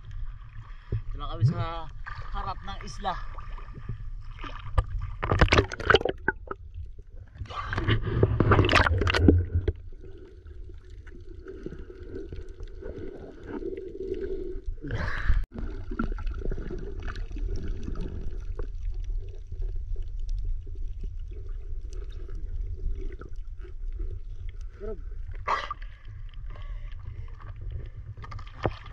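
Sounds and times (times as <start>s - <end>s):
muffled underwater rumble: 0.0s - 28.9s
water splashing: 0.0s - 28.9s.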